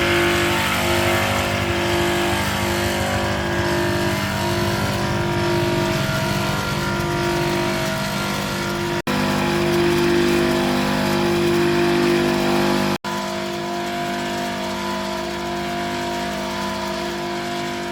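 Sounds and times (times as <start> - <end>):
electric motor humming: 0.0 - 17.9.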